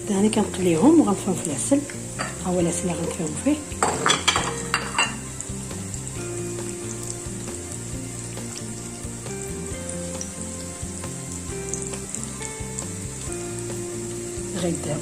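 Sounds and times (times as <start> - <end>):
light backing tune: 0.0 - 15.0
pastries sizzling in hot oil: 0.0 - 15.0.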